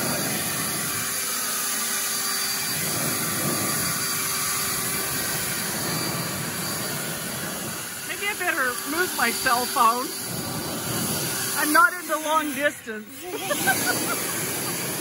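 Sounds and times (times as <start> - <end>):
leaf blower running: 0.0 - 15.0.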